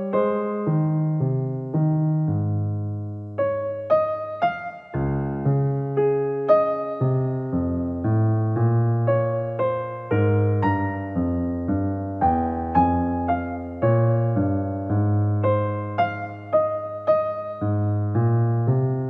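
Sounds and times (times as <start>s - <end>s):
gentle piano tune: 0.0s - 19.0s.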